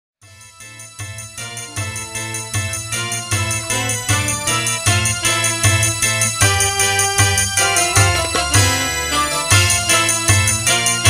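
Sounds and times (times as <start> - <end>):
live band playing: 1.4 - 11.0.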